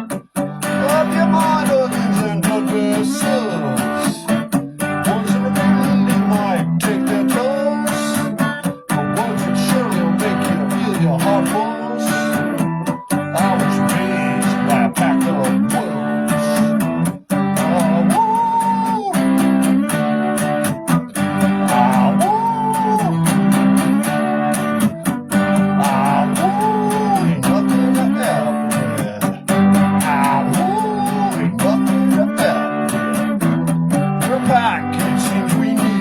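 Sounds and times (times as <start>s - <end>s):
guitar melody phrase: 0.0s - 36.0s
strummed acoustic guitar: 0.0s - 36.0s.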